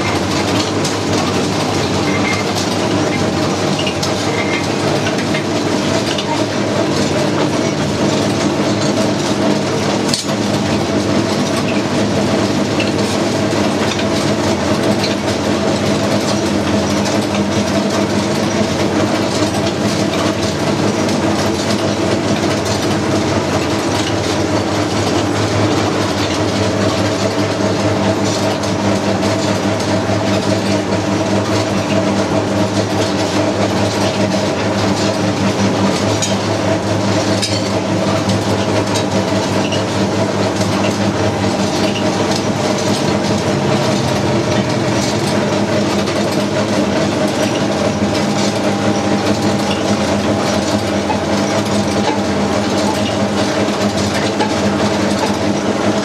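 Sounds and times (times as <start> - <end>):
grinding machine humming and clattering: 0.0 - 56.0.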